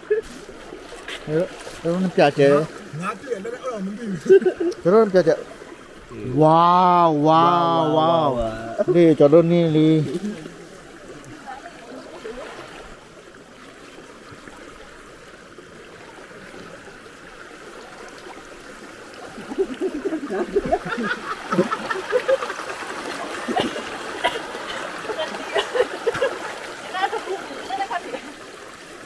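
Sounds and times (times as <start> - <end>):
people splashing through water: 0.0 - 16.9, 17.6 - 29.0
river running over rocks: 0.0 - 29.0.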